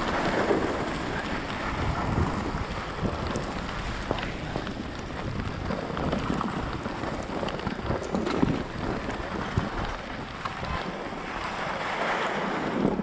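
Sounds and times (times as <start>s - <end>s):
wind buffeting a microphone: 0.0s - 13.0s.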